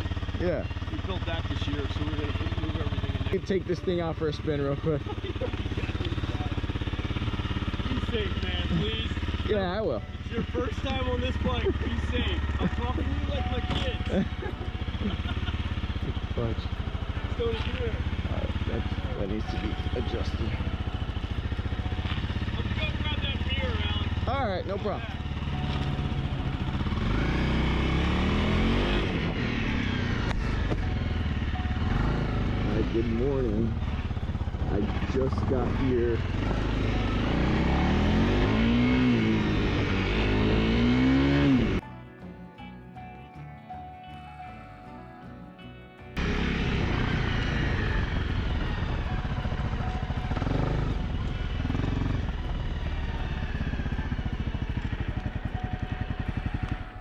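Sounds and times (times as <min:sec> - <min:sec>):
motorcycle engine revving: 0:00.0 - 0:41.8, 0:46.2 - 0:57.0.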